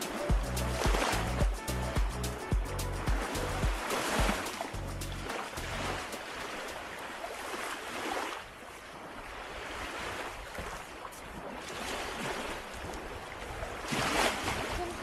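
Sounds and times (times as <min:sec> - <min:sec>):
lake waves washing onto beach: 0:00.0 - 0:15.0.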